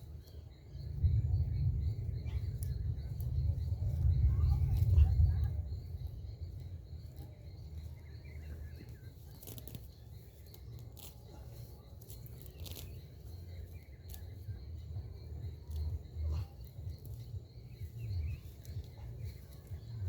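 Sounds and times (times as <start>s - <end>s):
low rumble: 0.0s - 9.2s, 11.3s - 20.0s.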